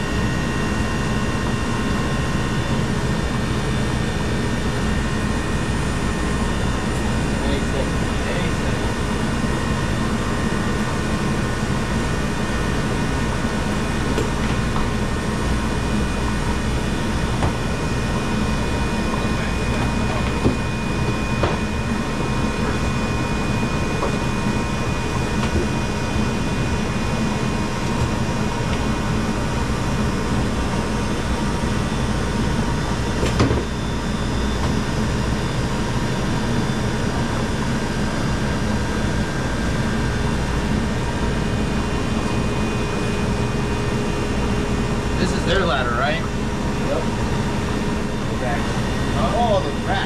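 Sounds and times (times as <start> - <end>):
faint steady whine: 0.0 - 50.0
mechanical running noise: 0.0 - 50.0.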